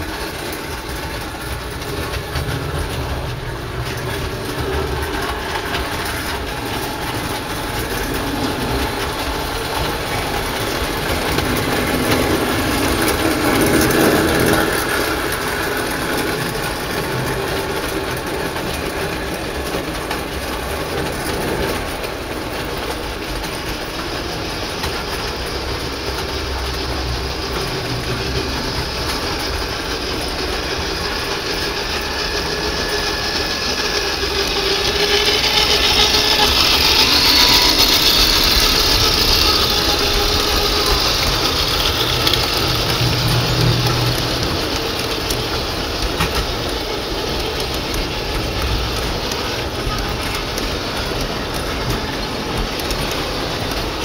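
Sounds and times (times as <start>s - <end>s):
model train on metal track: 0.0s - 54.0s.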